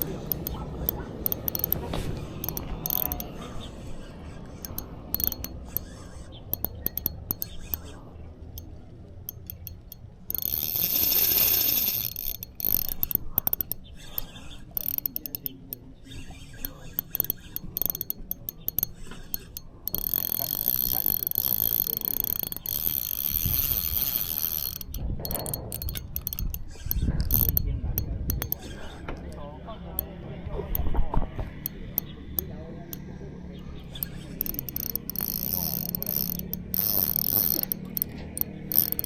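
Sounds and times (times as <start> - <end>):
handling clicks: 0.0 - 3.4, 4.4 - 33.1, 33.8 - 39.0
fishing reel gear whirring: 0.0 - 39.0.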